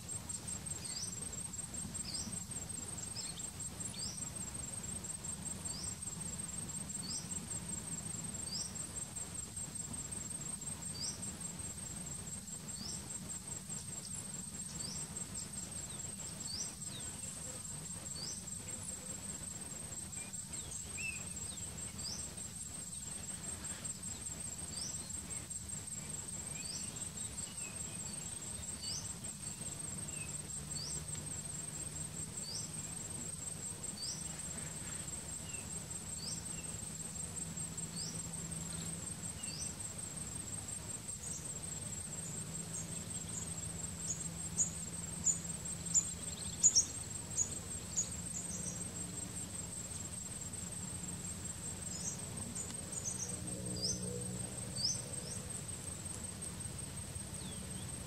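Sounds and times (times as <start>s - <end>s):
insect trill: 0.0s - 58.0s.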